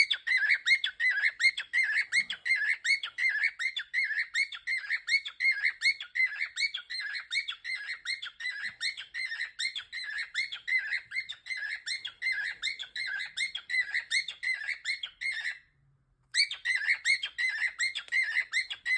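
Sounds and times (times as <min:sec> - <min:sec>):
cockatiel chirping: 0:00.0 - 0:18.9.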